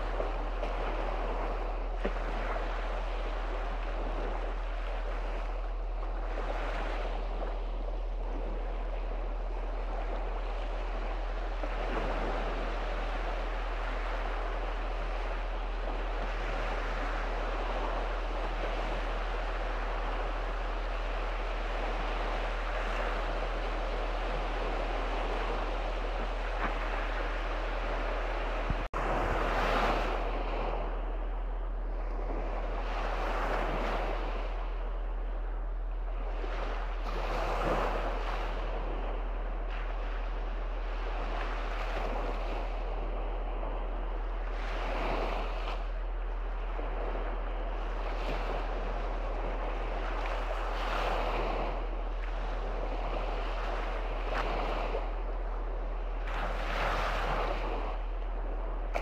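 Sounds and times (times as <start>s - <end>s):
sea waves breaking on shore: 0.0s - 59.0s
wind on microphone: 0.0s - 59.0s.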